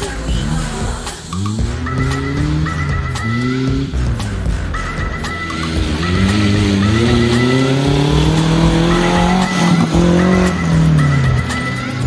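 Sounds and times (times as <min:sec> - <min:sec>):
buggy engine accelerating: 0:00.0 - 0:12.0.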